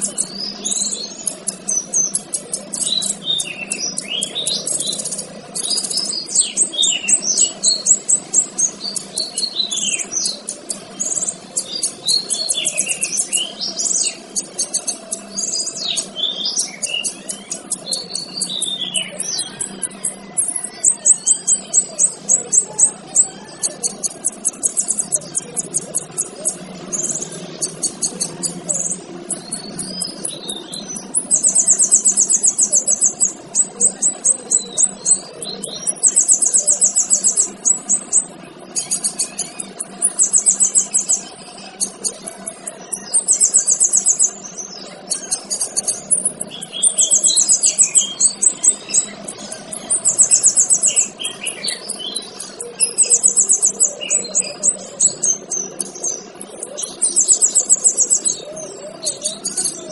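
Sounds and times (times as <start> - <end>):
bird buzzy trills: 0.0 - 59.9
bird chirps and whistles: 0.0 - 59.9.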